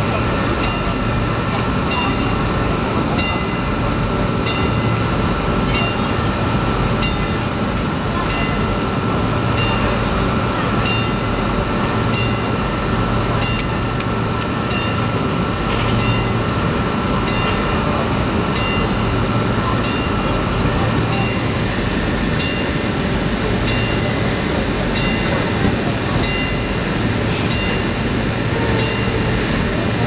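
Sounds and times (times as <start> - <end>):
train running noise: 0.0 - 30.0.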